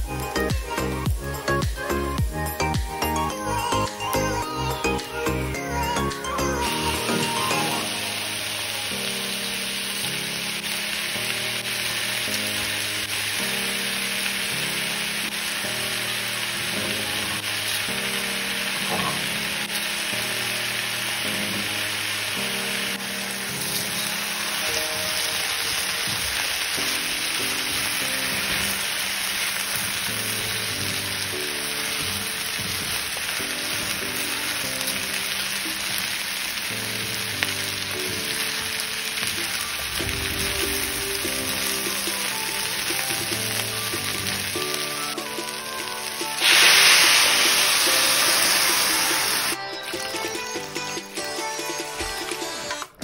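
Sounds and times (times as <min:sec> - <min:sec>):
background music: 0:00.0 - 0:53.0
vegetables sizzling in a wok: 0:03.8 - 0:51.5.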